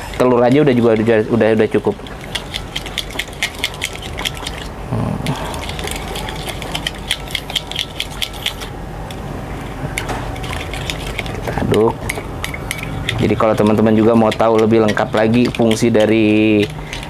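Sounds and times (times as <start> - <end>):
spoon scraping a glass bowl: 0.0 - 4.7, 5.3 - 8.7, 9.9 - 17.0.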